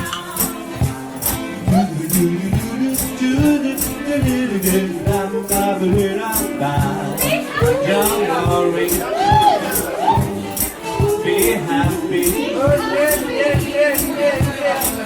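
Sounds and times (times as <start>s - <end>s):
shaken hand percussion: 0.0s - 15.0s
vocal group singing: 0.0s - 15.0s.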